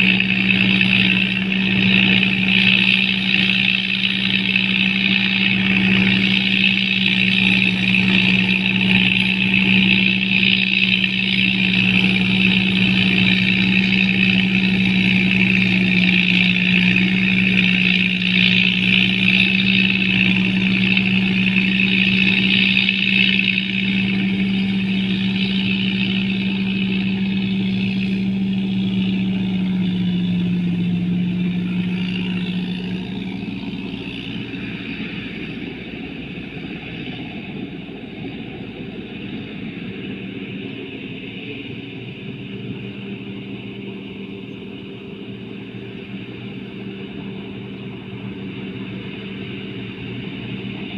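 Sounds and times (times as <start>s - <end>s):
combine harvester engine hum: 0.0s - 50.9s.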